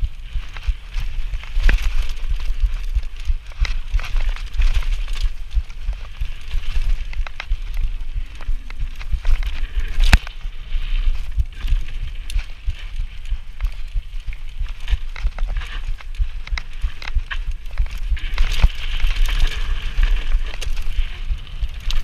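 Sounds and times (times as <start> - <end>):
bike rattling over bumps: 0.0 - 22.0
steady low rumble: 0.0 - 22.0
tyres crunching over dirt: 0.0 - 22.0.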